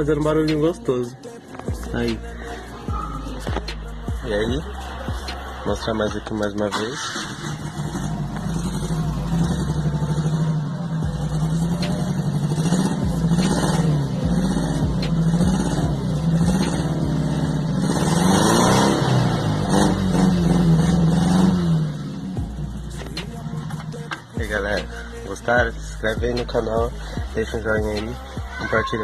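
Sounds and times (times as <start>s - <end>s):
car engine revving: 1.7s - 28.3s.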